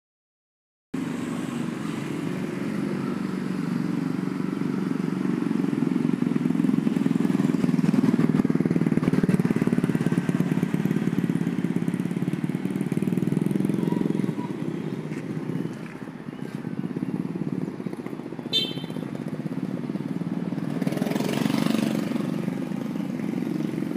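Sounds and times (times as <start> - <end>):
motorcycle engines running: 1.0 - 23.9.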